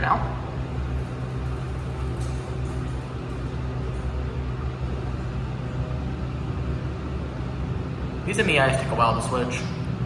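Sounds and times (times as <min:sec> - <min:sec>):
elevator low hum: 0:00.0 - 0:10.0.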